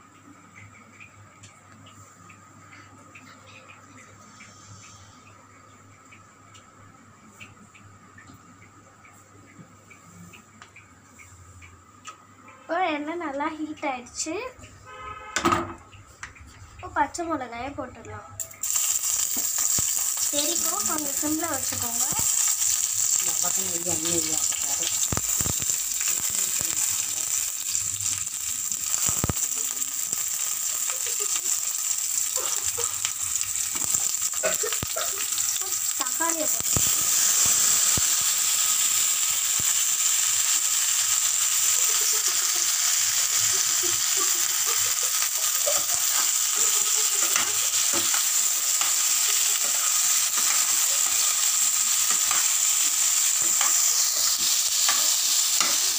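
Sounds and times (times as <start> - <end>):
chillies frying in hot oil: 0.0 - 55.9.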